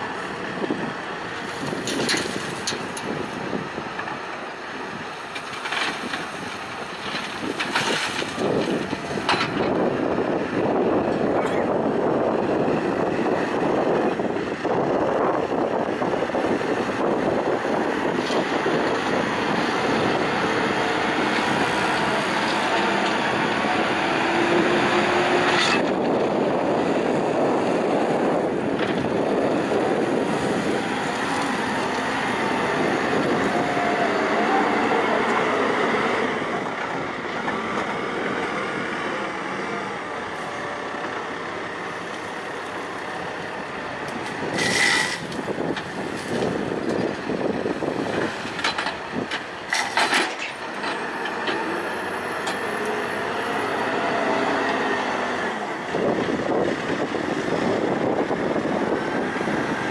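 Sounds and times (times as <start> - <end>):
backhoe diesel engine working: 0.0 - 59.9
gravel being loaded: 0.5 - 14.0, 15.4 - 59.9.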